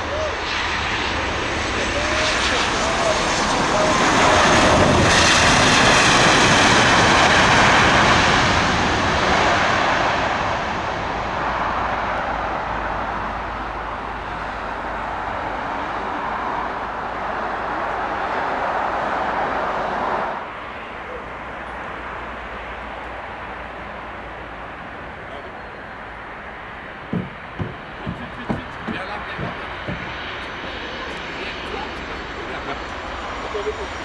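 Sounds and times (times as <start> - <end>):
airliner engine on approach: 0.0 - 34.0
jet engines with high whine: 0.0 - 34.0.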